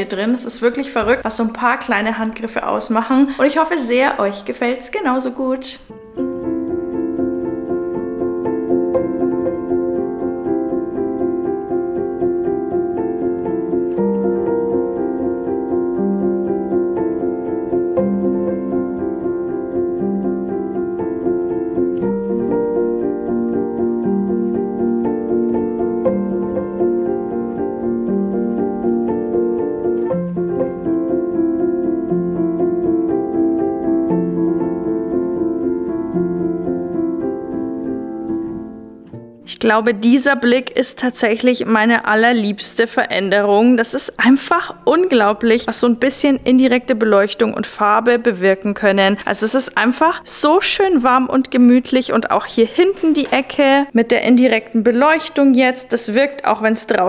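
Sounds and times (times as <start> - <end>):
piano background music: 0.0 - 57.0.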